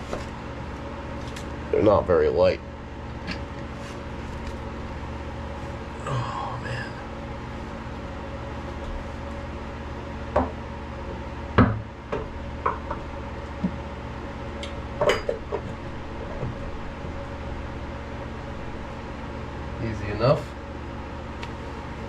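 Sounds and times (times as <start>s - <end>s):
steady machinery hum: 0.0s - 22.0s.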